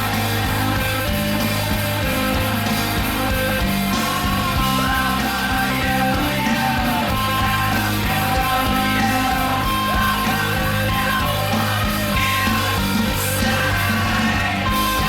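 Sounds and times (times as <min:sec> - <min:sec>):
man singing: 0:00.0 - 0:15.0
rock guitars and beat: 0:00.0 - 0:15.0.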